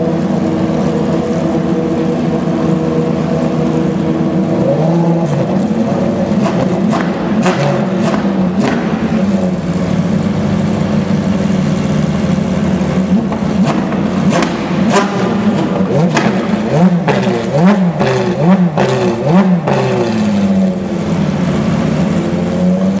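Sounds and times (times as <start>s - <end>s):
race car engine idling and revving: 0.0s - 23.0s.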